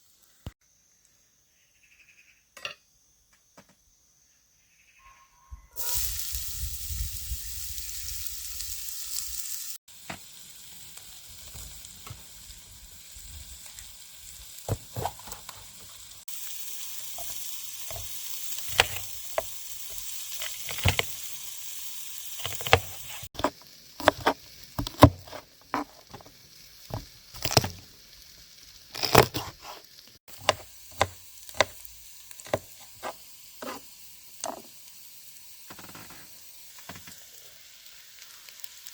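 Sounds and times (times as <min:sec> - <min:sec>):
food sizzling in frying pan: 0:05.8 - 0:38.9.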